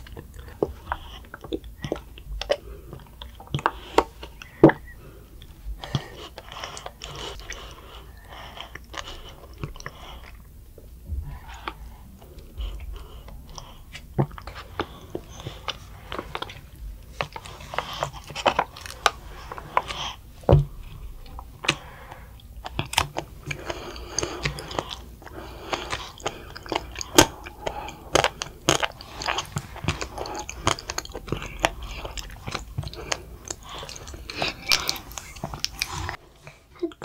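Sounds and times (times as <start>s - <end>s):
children chewing jelly: 0.0s - 37.0s.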